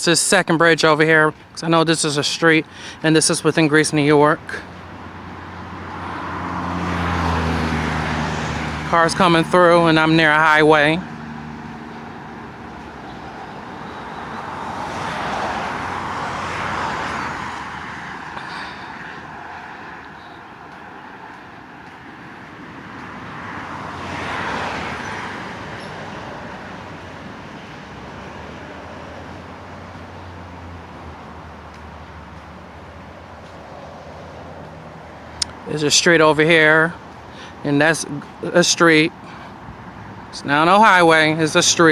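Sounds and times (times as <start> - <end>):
background traffic noise: 0.0 - 41.9
cars passing with tyre hiss: 0.0 - 41.9.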